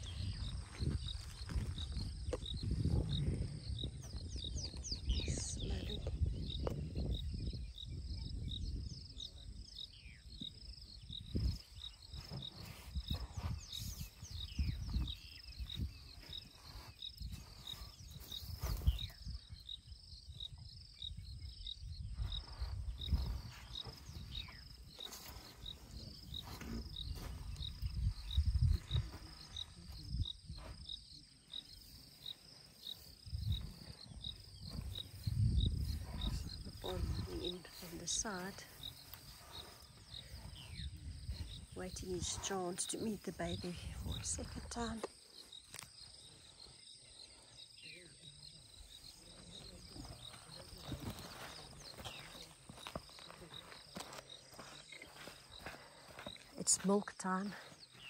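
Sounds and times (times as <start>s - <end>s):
insect chirping: 0.0s - 58.0s.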